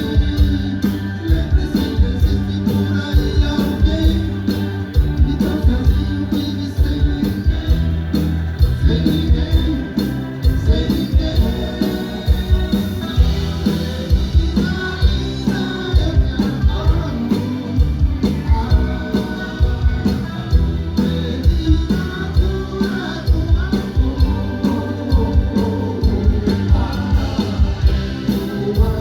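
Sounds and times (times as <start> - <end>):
drum-kit beat: 0.0 - 29.0
live band playing: 0.0 - 29.0.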